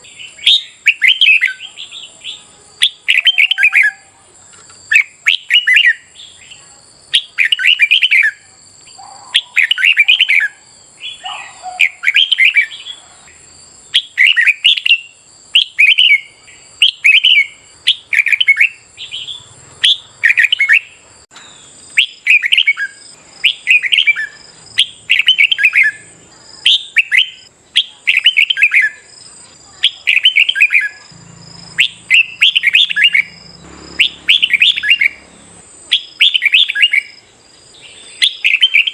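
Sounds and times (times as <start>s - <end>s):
bird singing warbled phrases: 0.0s - 38.9s.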